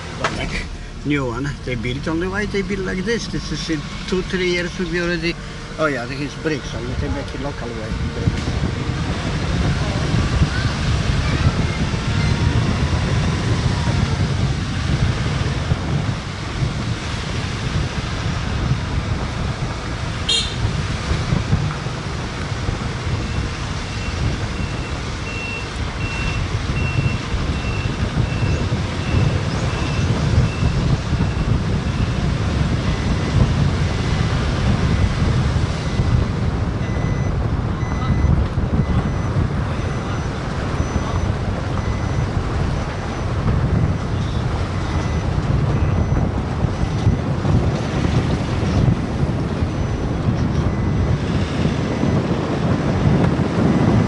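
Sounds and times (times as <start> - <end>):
engine and tyre rumble: 0.0 - 54.0
wind buffeting microphone: 0.0 - 54.0.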